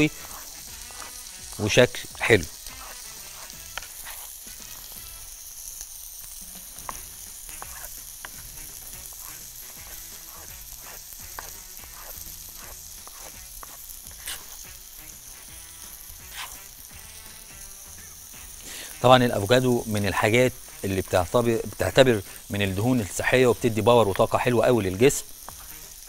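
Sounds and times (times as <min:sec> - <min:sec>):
meat sizzling on grill pan: 0:00.0 - 0:26.0.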